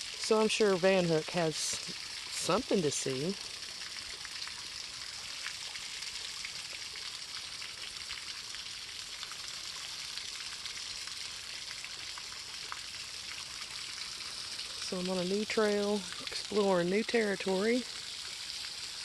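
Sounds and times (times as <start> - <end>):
small waterfall hissing: 0.0 - 19.0.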